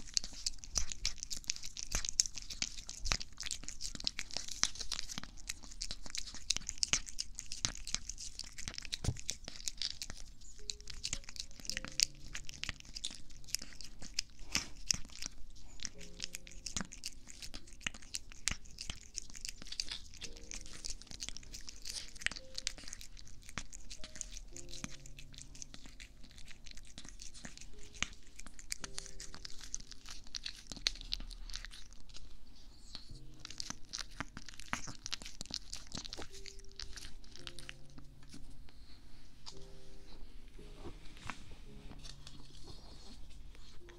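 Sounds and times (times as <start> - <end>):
plastic tube crinkling: 0.0 - 38.6, 39.4 - 39.8, 40.6 - 43.9
cat licking and lapping: 0.0 - 43.9.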